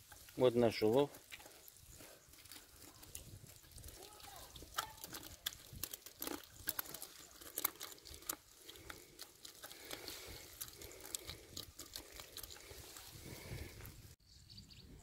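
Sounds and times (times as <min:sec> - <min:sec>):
fish wriggling in mesh trap: 0:00.0 - 0:14.2.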